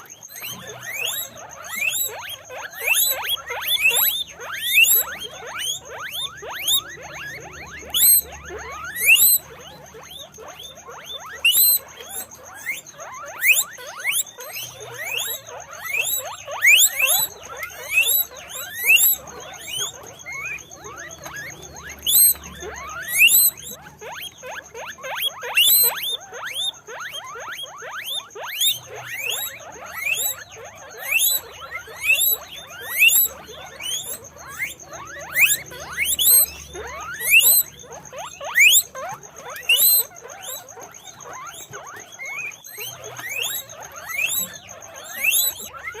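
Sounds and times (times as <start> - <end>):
guinea pigs squeaking: 0.0 - 46.0.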